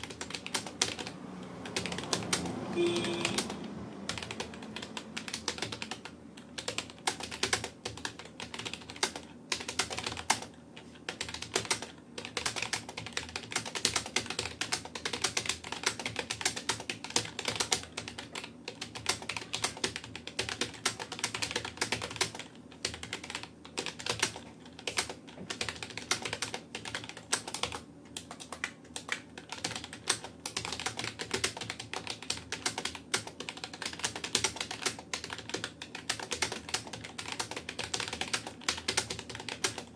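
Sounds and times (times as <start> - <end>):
keyboard typing clicks: 0.0 - 10.5, 11.1 - 39.9.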